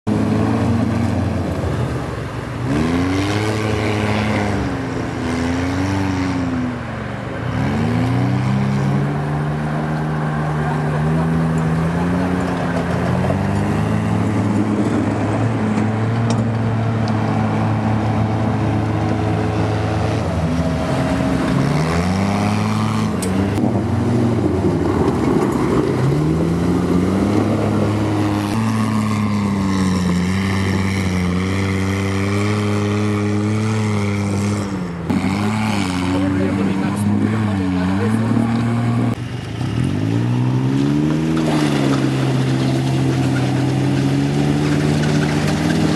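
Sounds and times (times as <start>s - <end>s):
engine revving: 0.0s - 45.9s.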